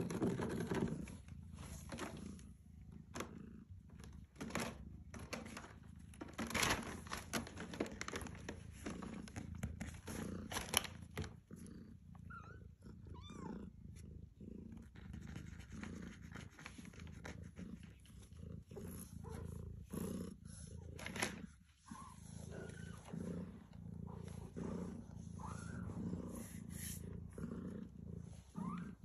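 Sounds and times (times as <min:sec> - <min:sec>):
rustling and handling noises: 0:00.0 - 0:11.7, 0:14.7 - 0:29.0
cat purring: 0:00.0 - 0:29.0.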